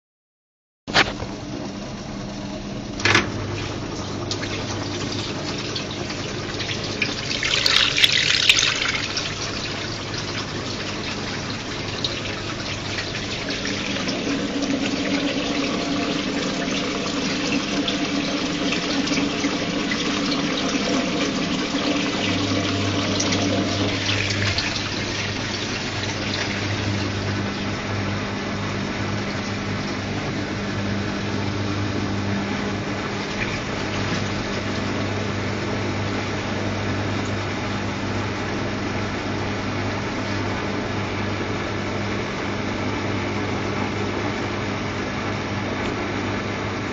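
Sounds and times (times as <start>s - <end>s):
motor hum: 0.9s - 46.9s
water sloshing in washing machine: 2.6s - 46.9s.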